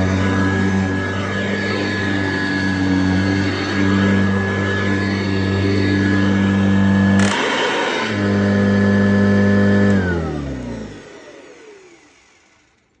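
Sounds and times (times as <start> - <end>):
vacuum cleaner motor humming: 0.0 - 13.0.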